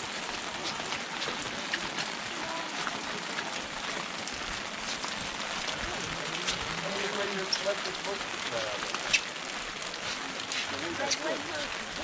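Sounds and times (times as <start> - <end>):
raindrops ticking: 0.0 - 12.0
steady rain: 0.0 - 12.0.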